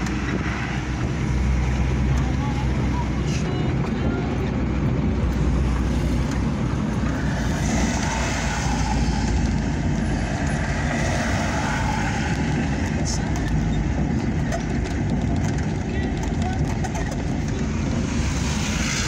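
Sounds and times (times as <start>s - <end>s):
road noise hiss: 0.0s - 14.4s, 17.2s - 19.0s
truck engine rumble: 0.0s - 19.0s.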